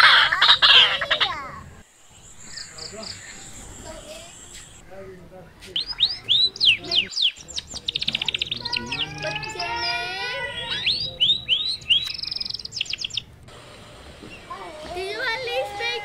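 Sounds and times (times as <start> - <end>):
small birds chirping and trilling: 0.0 - 14.9.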